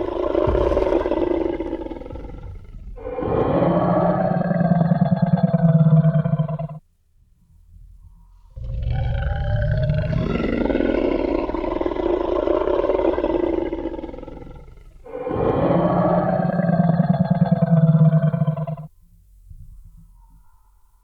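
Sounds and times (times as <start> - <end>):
deep growling roars: 0.0 - 6.8, 8.6 - 18.9.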